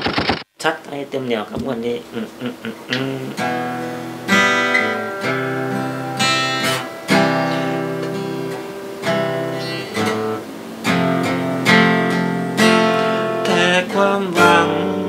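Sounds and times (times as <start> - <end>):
acoustic guitar strumming: 2.6 - 15.0.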